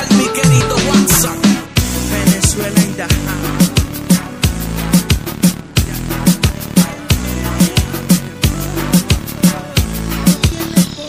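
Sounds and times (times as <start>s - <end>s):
deep bass notes: 0.0s - 10.7s
crisp hi-hats: 0.0s - 11.0s.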